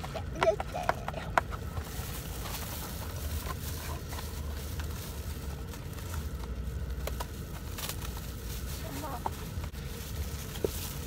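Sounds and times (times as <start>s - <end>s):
low rumble inside car: 0.0s - 11.0s
soft rustles of cardboard box: 1.5s - 11.0s.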